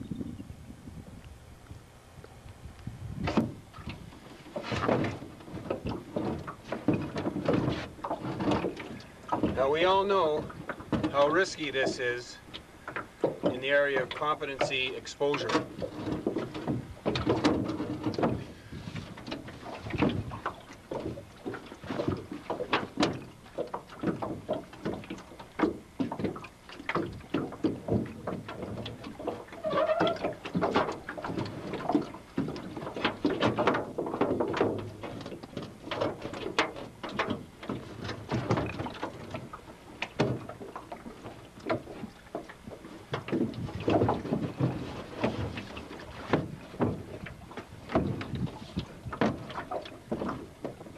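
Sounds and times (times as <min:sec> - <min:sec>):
water lapping against metal hull: 0:00.0 - 0:50.9.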